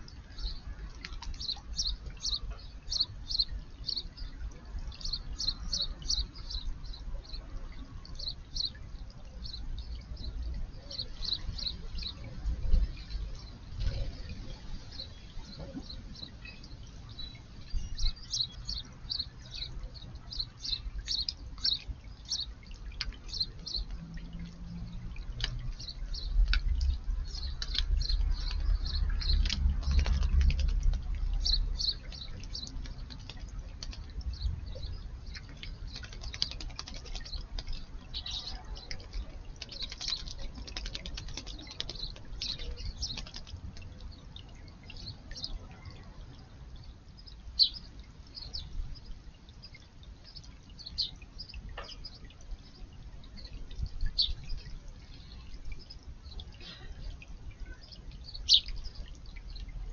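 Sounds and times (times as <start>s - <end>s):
sparrows chirping: 0.0s - 59.9s
water splashing and dripping: 0.0s - 59.9s.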